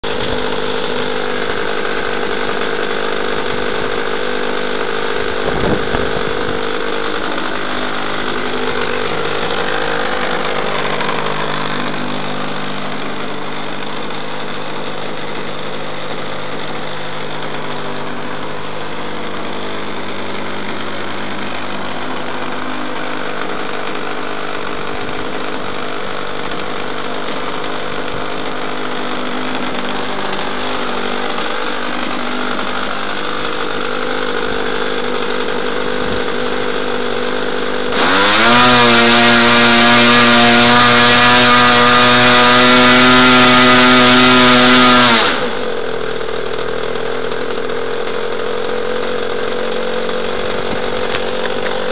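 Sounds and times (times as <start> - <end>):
model airplane engine running: 0.0 - 51.9.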